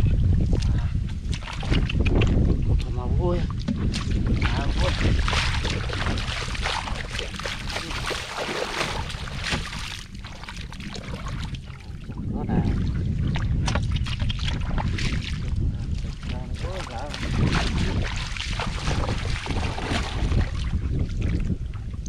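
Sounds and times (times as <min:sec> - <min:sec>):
wind rumbling on microphone: 0:00.0 - 0:22.0
floodwater sloshing and splashing: 0:00.1 - 0:22.0.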